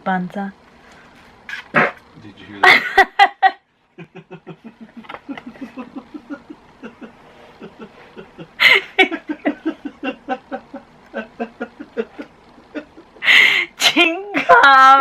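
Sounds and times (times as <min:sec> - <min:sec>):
woman laughing: 0:02.6 - 0:15.0.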